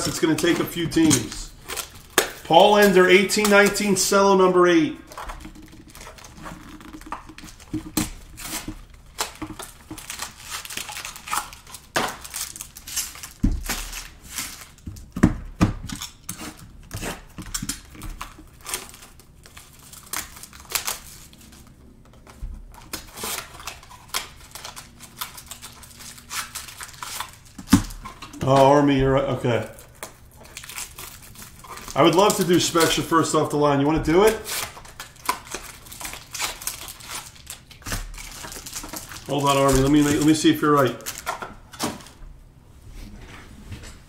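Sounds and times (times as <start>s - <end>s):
wrappers crinkling and tearing: 0.0s - 15.2s, 15.9s - 42.2s.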